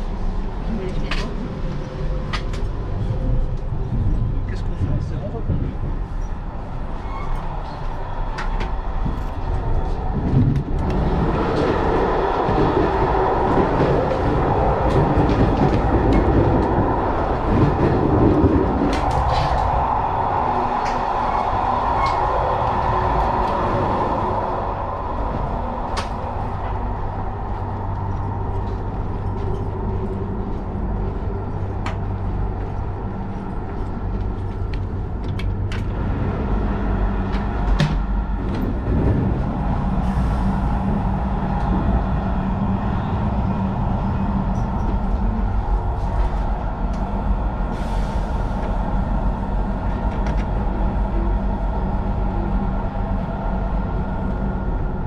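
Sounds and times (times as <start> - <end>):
low hum: 0.0 - 55.0
train wheels rumbling on rails: 0.0 - 55.0.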